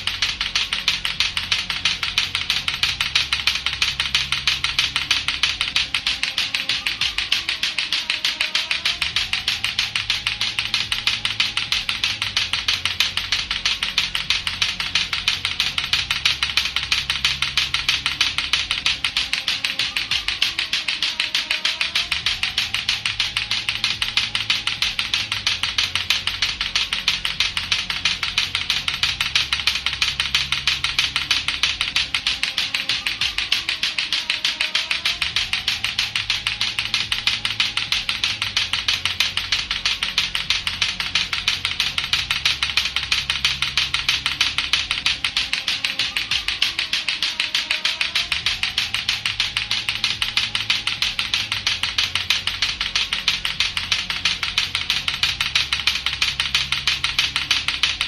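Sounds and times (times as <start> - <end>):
low music bed: 0.0 - 58.0
plastic ball clackers clacking: 0.0 - 58.0.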